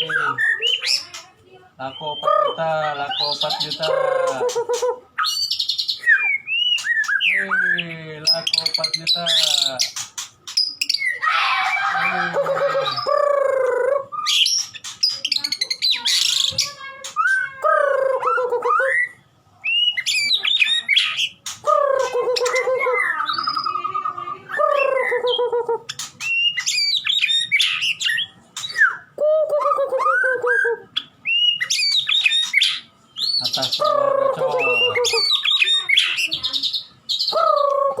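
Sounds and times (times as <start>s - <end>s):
songbird singing whistled phrases: 0.0s - 1.2s, 1.8s - 11.3s, 14.0s - 38.0s.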